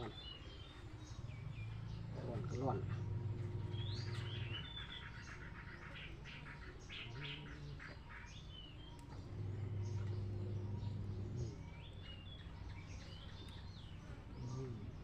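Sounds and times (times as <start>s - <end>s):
low steady hum: 0.0s - 15.0s
small birds chirping: 0.0s - 15.0s.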